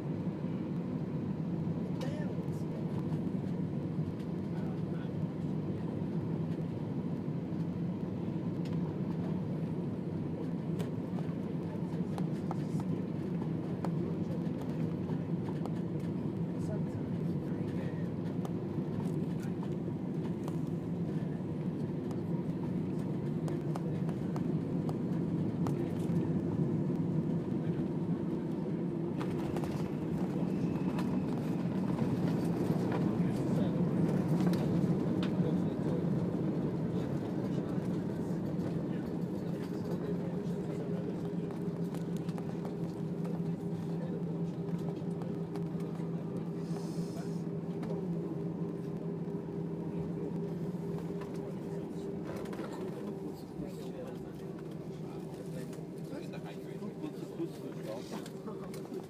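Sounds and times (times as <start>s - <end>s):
airplane cabin rumble: 0.0s - 59.0s.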